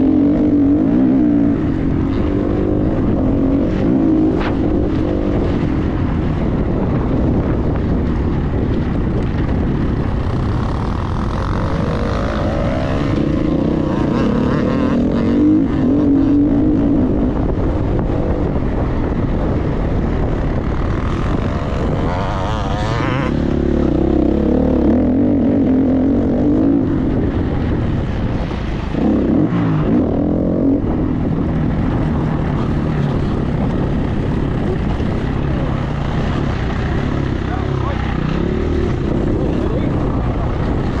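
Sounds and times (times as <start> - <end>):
dirt bike engine revving: 0.0 - 17.4, 20.6 - 41.0.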